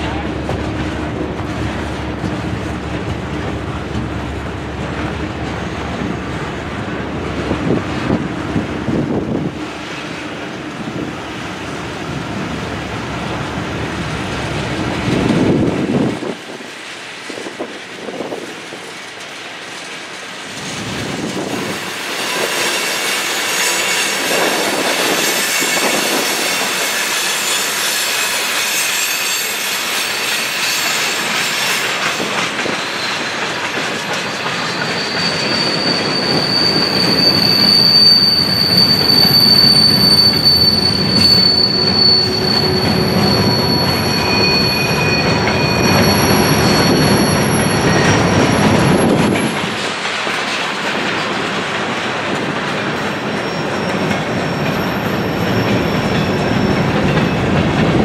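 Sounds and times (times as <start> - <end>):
steel wheels squealing on rails: 0.0 - 58.0
train rolling past: 0.0 - 58.0.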